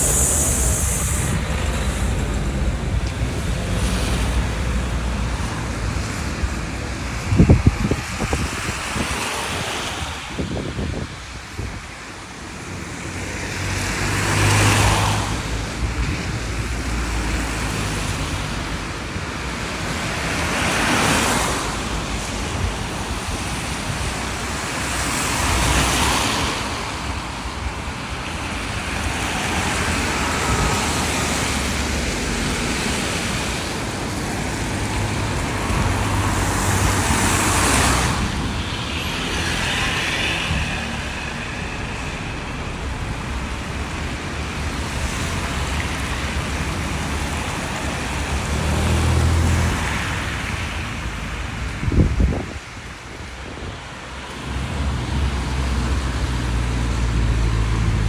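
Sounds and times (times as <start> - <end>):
tyres hissing on wet road: 0.0 - 58.0
vehicles passing on wet road: 0.0 - 58.0.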